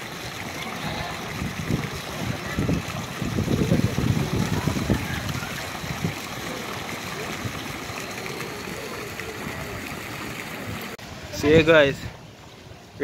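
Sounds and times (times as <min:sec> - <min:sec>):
swimmers splashing: 0:00.0 - 0:11.0.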